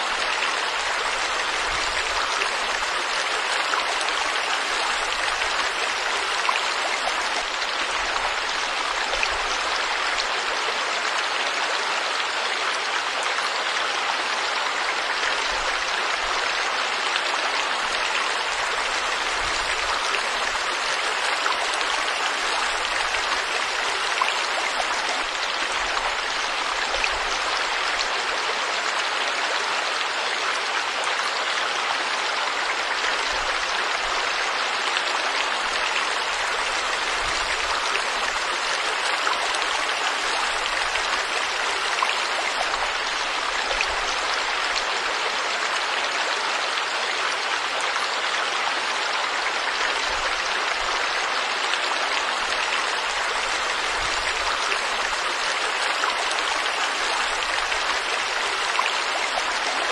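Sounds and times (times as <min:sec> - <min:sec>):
stream water flowing and splashing: 0:00.0 - 0:59.9.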